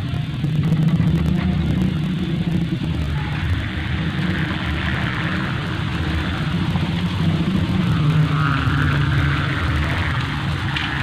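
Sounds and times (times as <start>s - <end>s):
kite hummer droning: 0.0s - 11.0s.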